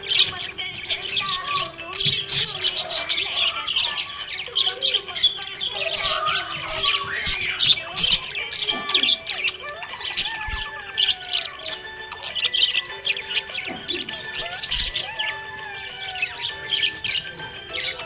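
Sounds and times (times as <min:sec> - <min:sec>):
parrots chirping: 0:00.0 - 0:18.0.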